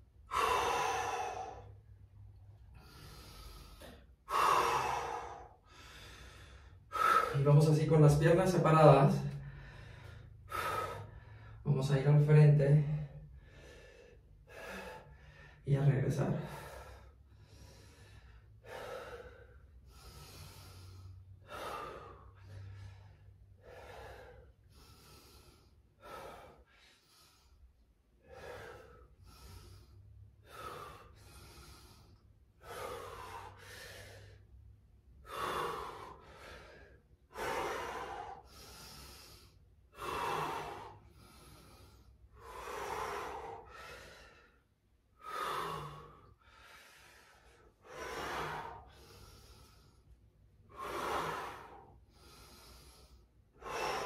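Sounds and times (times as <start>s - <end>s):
person breathing hard: 0.0s - 12.0s, 12.8s - 54.0s.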